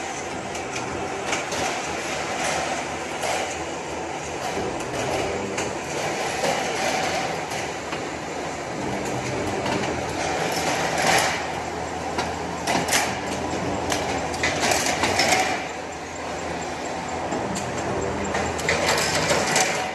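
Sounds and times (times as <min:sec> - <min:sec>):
rollforming machine running: 0:00.0 - 0:19.9.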